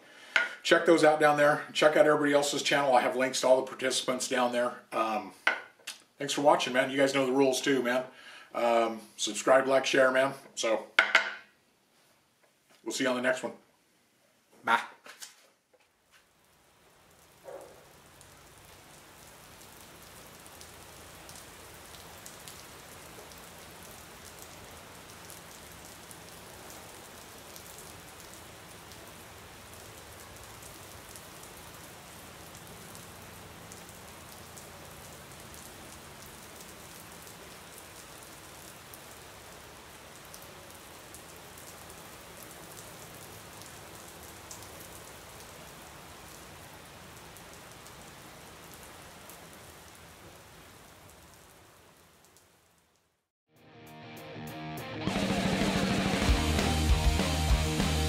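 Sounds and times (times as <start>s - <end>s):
steady rain falling: 0.0s - 11.1s, 14.4s - 53.3s, 54.9s - 58.0s.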